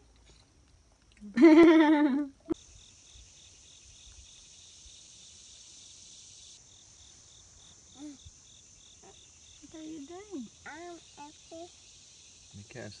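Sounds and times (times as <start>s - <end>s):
insect chorus hiss: 0.0s - 13.0s
pulsing insect chirp: 0.0s - 13.0s.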